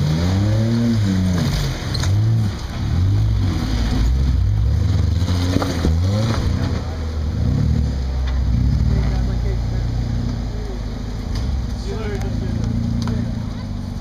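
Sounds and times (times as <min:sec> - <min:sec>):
off-road engine revving: 0:00.0 - 0:14.0.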